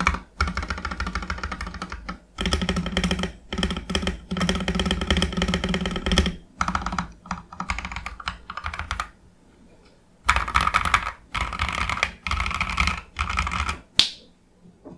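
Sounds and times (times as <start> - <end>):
mechanical keyboard typing: 0.0 - 9.2, 10.2 - 13.8.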